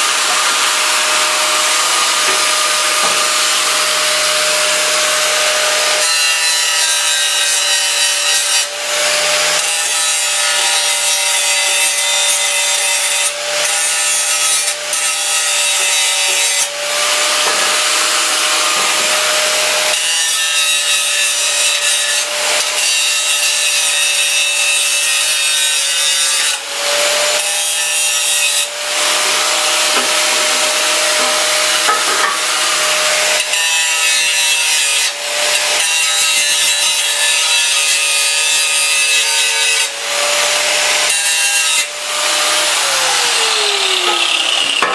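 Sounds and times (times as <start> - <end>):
power grinder grinding metal: 0.0 - 44.9.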